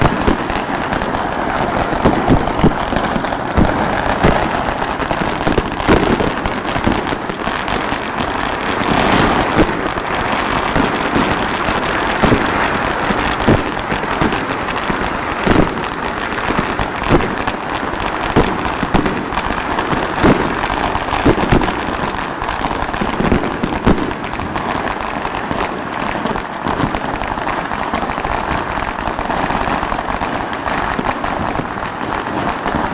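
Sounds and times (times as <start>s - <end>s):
firework bangs: 0.0s - 32.9s
fireworks crackling: 0.0s - 32.9s.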